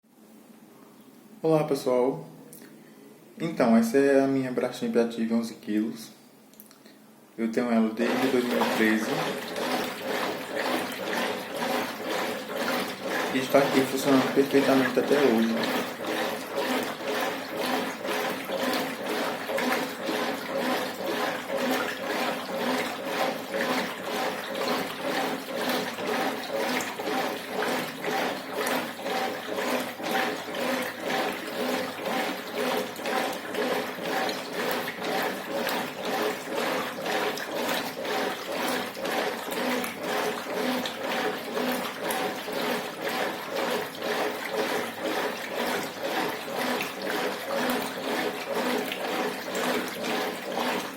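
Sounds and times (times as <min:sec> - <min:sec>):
washing machine water sloshing: 0:07.4 - 0:50.9.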